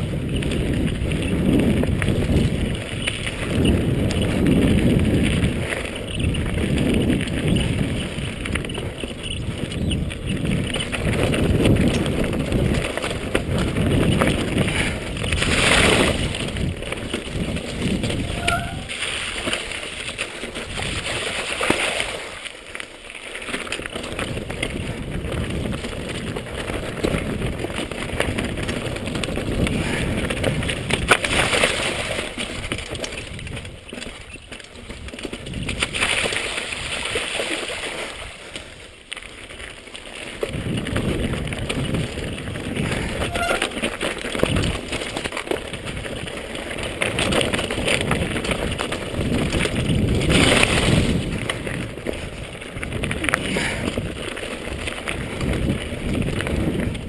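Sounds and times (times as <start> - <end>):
bike rattling over bumps: 0.0 - 57.0
bike tyres crunching over rock: 0.0 - 57.0.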